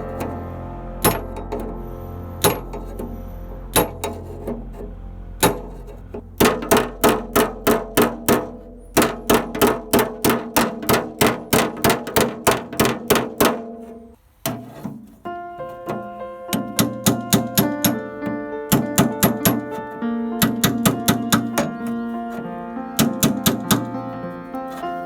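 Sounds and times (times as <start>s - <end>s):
hammer striking sheet steel: 0.0s - 1.8s, 2.4s - 15.1s, 15.8s - 22.4s, 23.0s - 24.0s.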